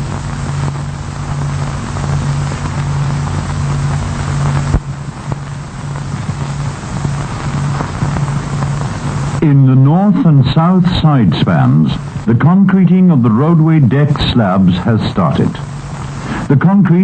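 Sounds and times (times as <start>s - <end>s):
constant hiss: 0.0s - 17.0s
low mechanical drone: 0.0s - 17.0s.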